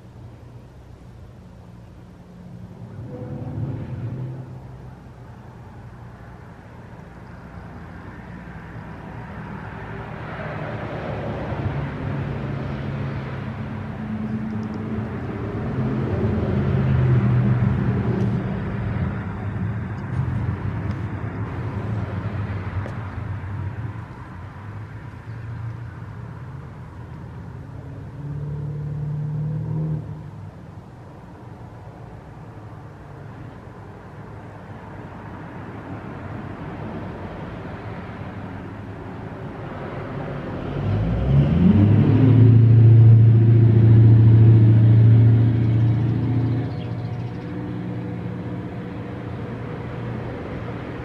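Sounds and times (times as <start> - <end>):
low engine hum: 0.0 - 51.0
vehicle passing: 1.6 - 51.0.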